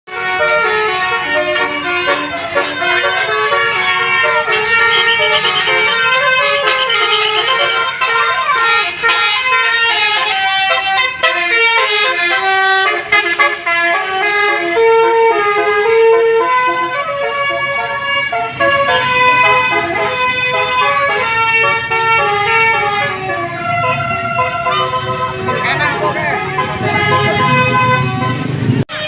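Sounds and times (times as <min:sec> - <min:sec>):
multi-trumpet air horn playing tune: 0:00.1 - 0:29.0.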